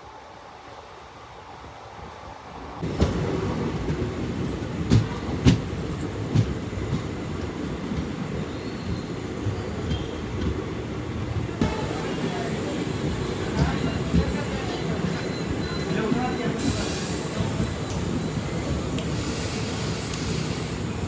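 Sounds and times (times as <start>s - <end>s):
train rumble: 1.2s - 21.0s.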